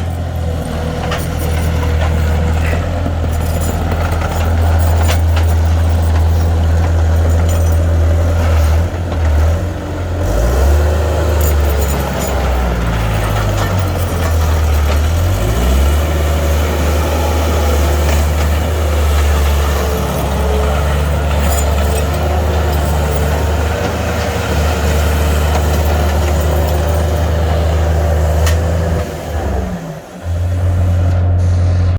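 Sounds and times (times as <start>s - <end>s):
skid steer diesel engine running: 0.0s - 31.9s.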